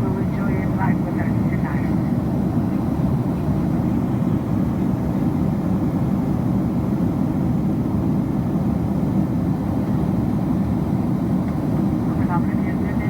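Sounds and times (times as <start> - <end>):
jet engine and airflow roar: 0.0 - 13.0.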